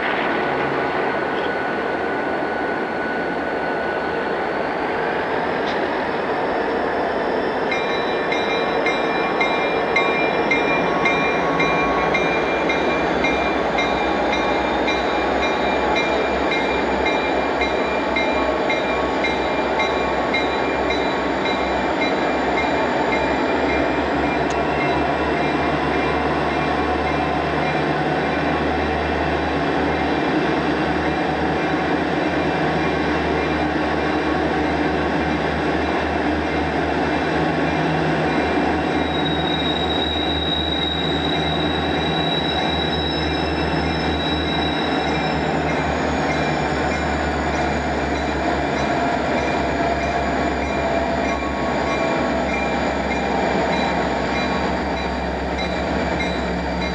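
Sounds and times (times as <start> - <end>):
diesel locomotive engine: 0.0 - 56.9
train rail noise: 0.0 - 56.9.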